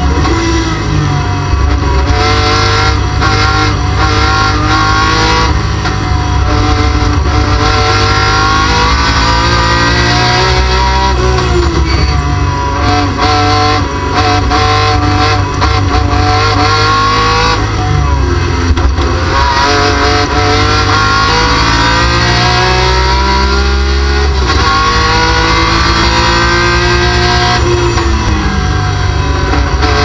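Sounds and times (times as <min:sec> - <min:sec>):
race car engine at high revs: 0:00.0 - 0:30.0.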